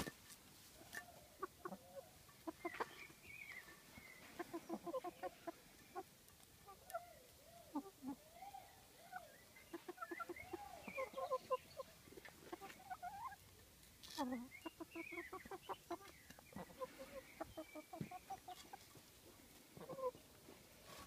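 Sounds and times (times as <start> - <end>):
hens clucking: 0.7 - 21.0.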